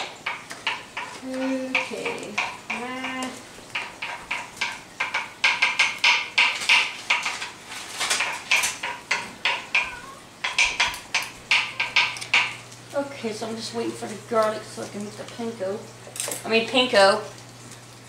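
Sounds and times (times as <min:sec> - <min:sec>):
kitchen utensils clattering: 0:00.0 - 0:17.3.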